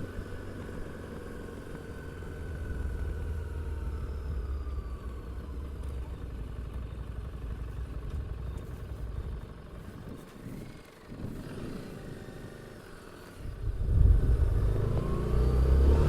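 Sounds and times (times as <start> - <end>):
motorcycle engine rumbling: 0.0 - 15.9.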